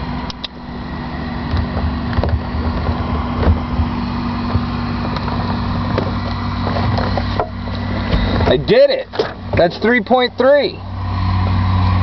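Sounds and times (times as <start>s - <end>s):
aircraft cockpit hum: 0.0s - 12.0s.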